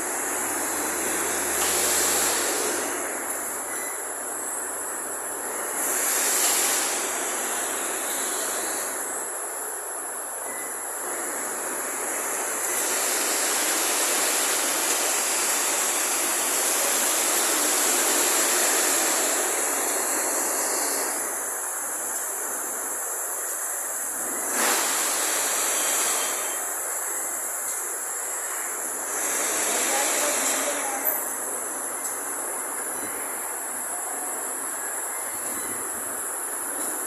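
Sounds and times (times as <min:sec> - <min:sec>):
shop machinery noise: 0:00.0 - 0:37.0
welding arc hiss: 0:00.0 - 0:37.0.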